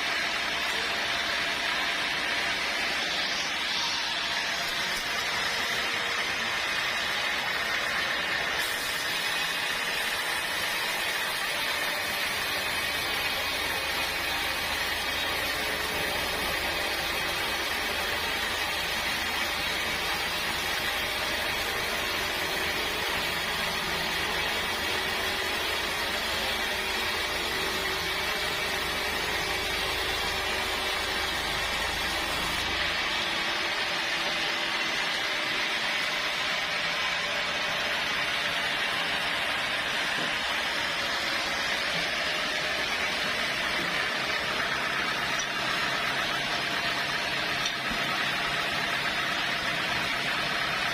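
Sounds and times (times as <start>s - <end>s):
sawmill saw cutting log: 0.0s - 50.9s.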